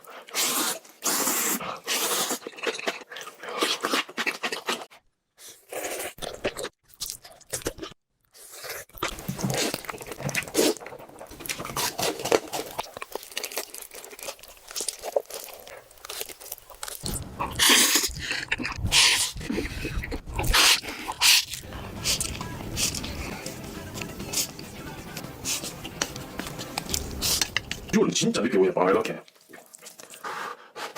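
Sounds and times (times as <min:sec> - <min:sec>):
chewing and crunching: 0:00.0 - 0:28.0, 0:29.2 - 0:30.9.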